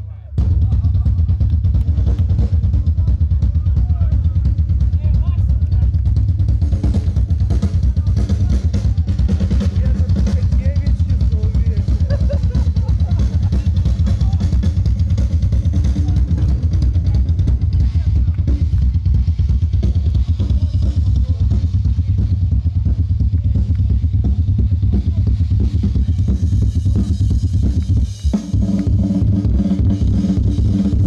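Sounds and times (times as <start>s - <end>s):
heavy bass: 0.0s - 31.0s
fast drum beat: 0.4s - 31.0s.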